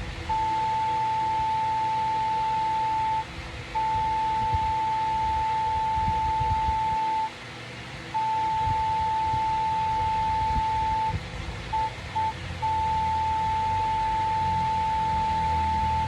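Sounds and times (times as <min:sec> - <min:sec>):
low background rumble: 0:00.0 - 0:16.0
morse code beep tone: 0:00.3 - 0:03.2, 0:03.8 - 0:07.3, 0:08.2 - 0:11.2, 0:11.8 - 0:16.0.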